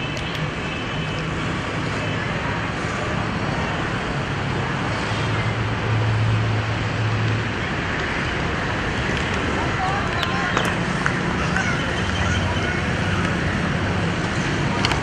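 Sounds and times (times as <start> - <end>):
background traffic noise: 0.0 - 15.0.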